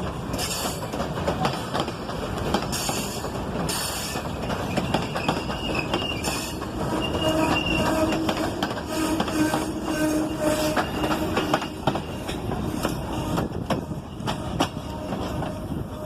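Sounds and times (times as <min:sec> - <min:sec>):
train cars clacking over rail joints: 0:00.0 - 0:16.0
train wheel squeals: 0:00.3 - 0:01.5, 0:02.5 - 0:16.0.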